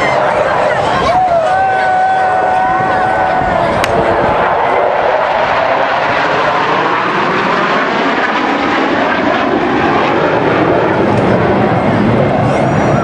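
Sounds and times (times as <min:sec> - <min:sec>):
jet engines rushing overhead: 0:00.0 - 0:13.0.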